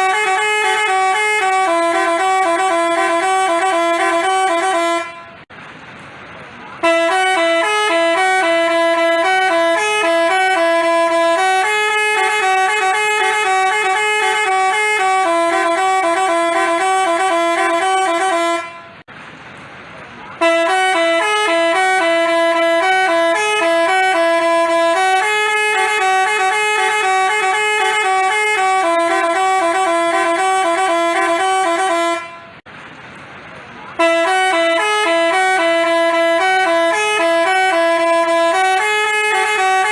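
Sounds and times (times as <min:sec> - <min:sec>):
multi-tone bus horn tune: 0:00.0 - 0:05.5, 0:06.6 - 0:19.1, 0:20.3 - 0:32.7, 0:33.9 - 0:39.9.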